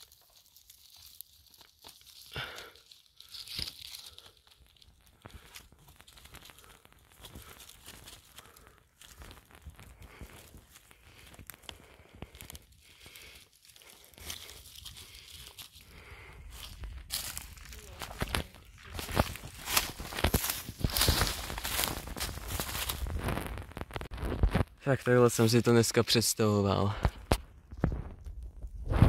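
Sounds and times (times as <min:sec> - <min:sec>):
twigs and leaves crackling: 0:00.0 - 0:29.0.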